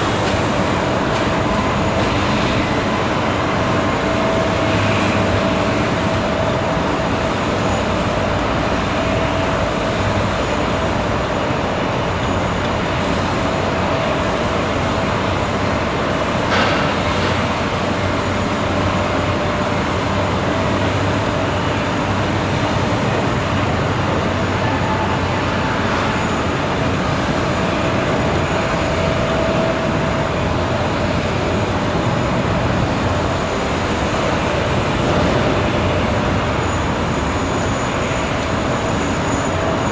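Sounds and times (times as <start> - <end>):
machinery rumble and hiss: 0.0 - 39.9
steady high whine: 0.0 - 39.9.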